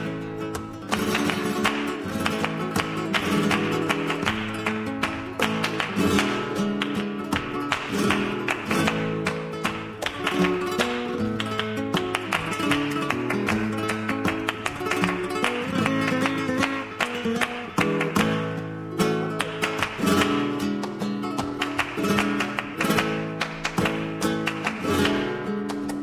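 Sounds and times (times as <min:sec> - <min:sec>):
flamenco guitar music: 0:00.0 - 0:26.0.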